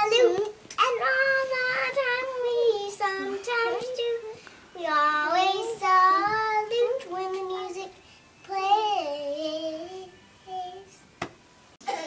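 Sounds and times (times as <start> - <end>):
young child singing: 0.0 - 11.0.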